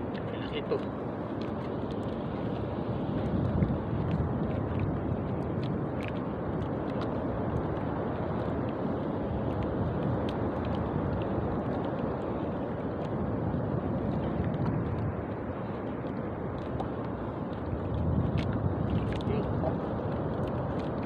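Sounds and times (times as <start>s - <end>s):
water splashing against boat: 0.0s - 21.0s
wind noise on microphone: 0.0s - 21.0s.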